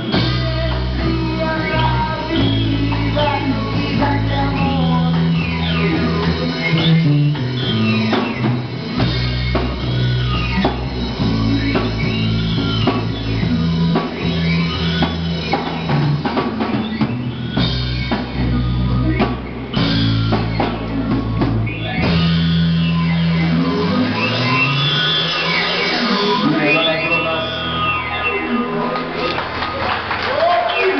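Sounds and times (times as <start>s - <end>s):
bass guitar low notes: 0.0s - 30.5s
drum kit: 0.0s - 30.9s
electric guitar: 0.0s - 30.9s.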